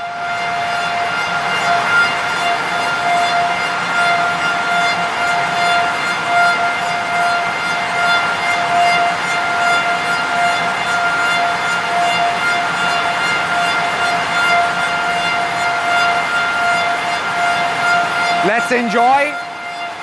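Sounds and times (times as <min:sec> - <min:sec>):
lathe spindle whine: 0:00.0 - 0:20.0.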